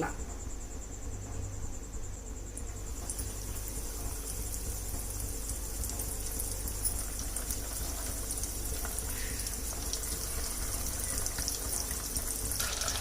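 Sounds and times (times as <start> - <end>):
food deep-frying in oil: 2.6 - 13.0.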